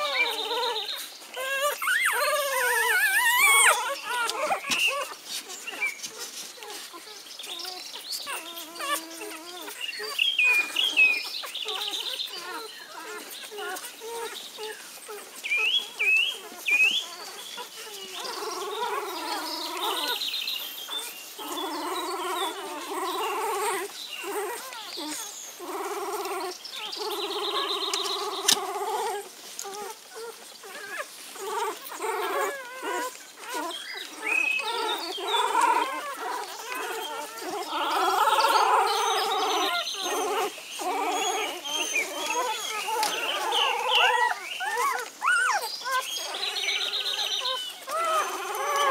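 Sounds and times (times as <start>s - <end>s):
puppies whining and squealing: 0.0s - 48.9s.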